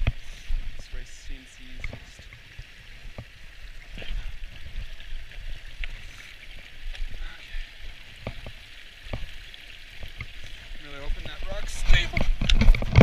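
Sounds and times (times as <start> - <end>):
creek rushing: 0.0 - 13.0.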